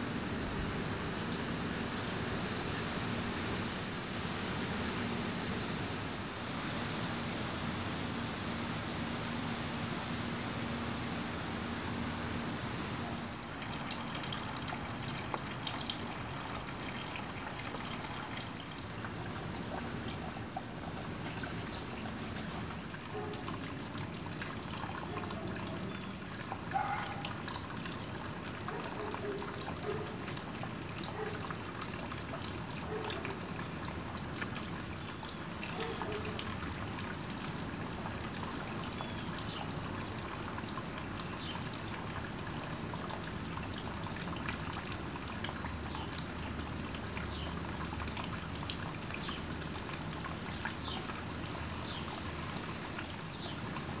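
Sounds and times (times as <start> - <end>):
pond water trickling: 0.0 - 54.0.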